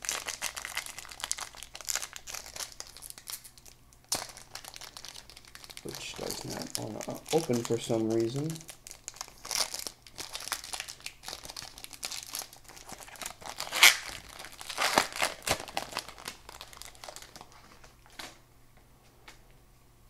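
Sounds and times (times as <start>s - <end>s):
plastic wrapper crinkling: 0.0s - 18.4s.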